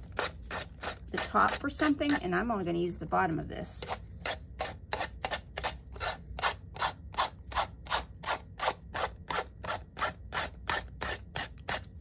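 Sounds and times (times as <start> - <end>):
nail file rasping: 0.0 - 2.3, 3.8 - 12.0.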